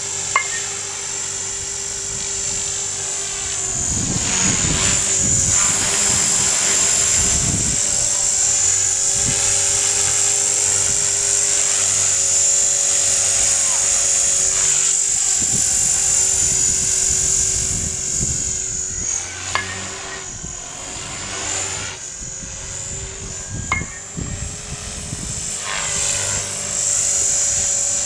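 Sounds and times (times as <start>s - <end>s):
rc helicopter motor and rotor whine: 0.0s - 28.0s.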